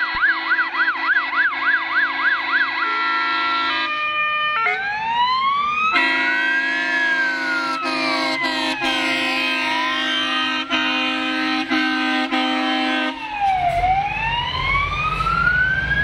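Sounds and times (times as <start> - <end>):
steady horn tones: 0.0 - 5.0, 5.9 - 13.8
fire engine siren: 0.0 - 16.0.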